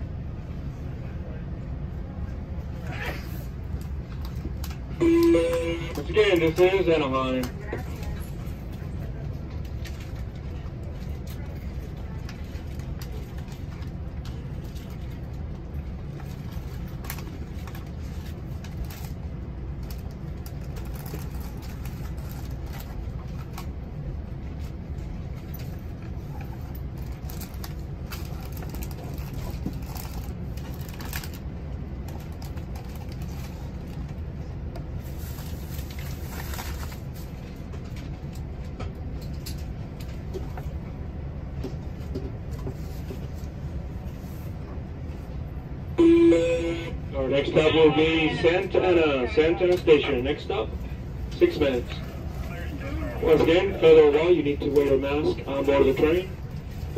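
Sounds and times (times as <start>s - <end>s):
train coach rumble: 0.0s - 56.9s.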